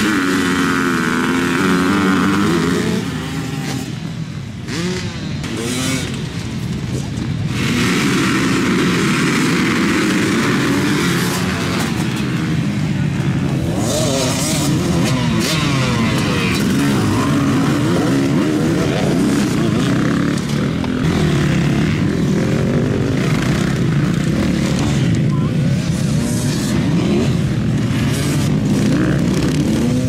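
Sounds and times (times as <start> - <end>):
off-road racing engines: 0.0 - 30.0.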